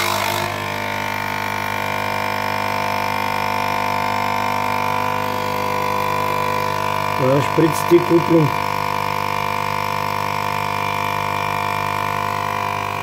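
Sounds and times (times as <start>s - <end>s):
coffee machine pump buzzing: 0.0s - 13.0s.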